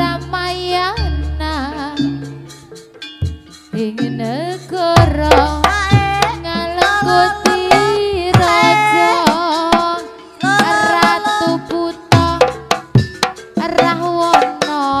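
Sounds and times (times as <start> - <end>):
hand drums struck: 1.7 - 4.2, 4.8 - 15.0.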